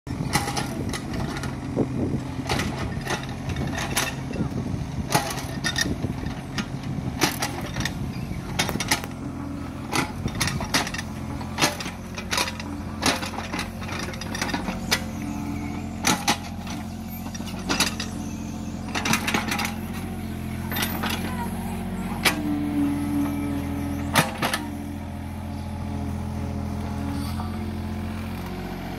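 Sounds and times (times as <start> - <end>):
excavator diesel engine running: 0.1 - 28.9.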